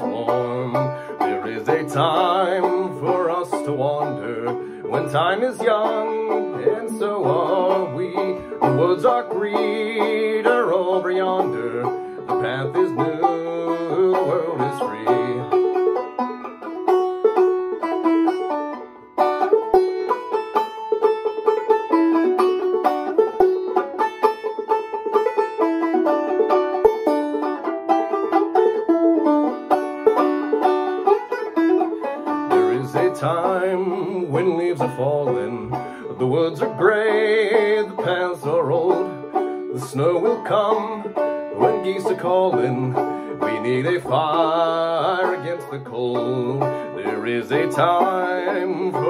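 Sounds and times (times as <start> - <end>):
banjo plucking and strumming: 0.0 - 49.0.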